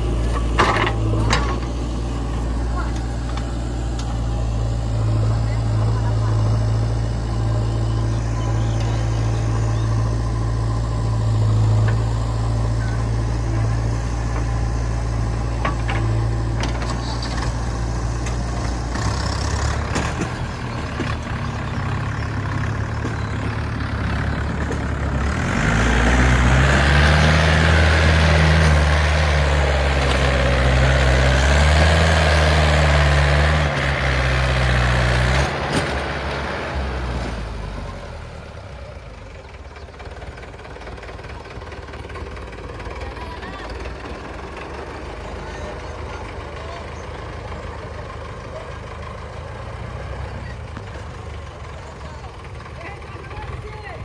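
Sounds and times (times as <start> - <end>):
diesel engines running: 0.0 - 54.0
tractor engine revving: 0.0 - 54.0.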